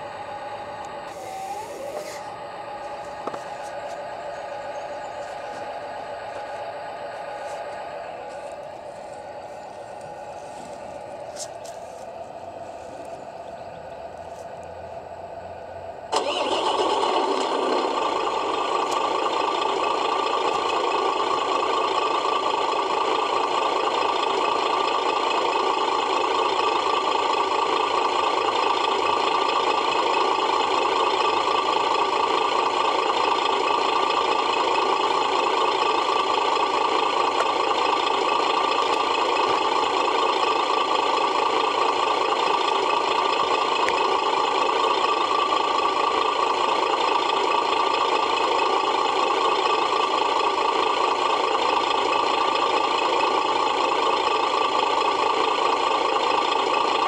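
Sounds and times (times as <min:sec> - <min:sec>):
truck engine starting and idling from speaker: 0:00.0 - 0:57.0.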